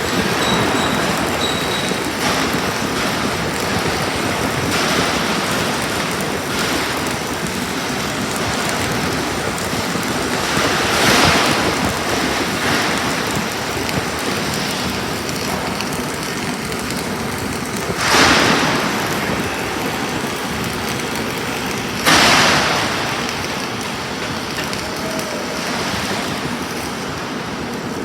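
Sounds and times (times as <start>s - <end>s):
welding arc crackling sizzle: 0.0s - 28.0s.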